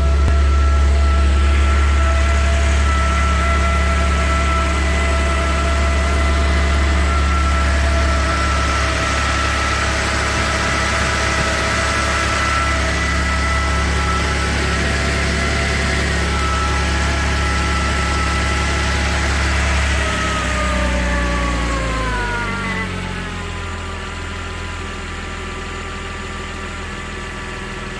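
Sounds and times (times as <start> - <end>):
high-pitched whine: 0.0 - 26.0
car engine idling: 0.0 - 27.9.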